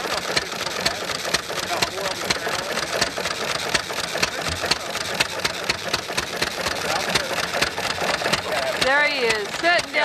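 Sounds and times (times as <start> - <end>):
hit-and-miss engine running: 0.0 - 10.0
sharp engine ticks: 0.0 - 10.0.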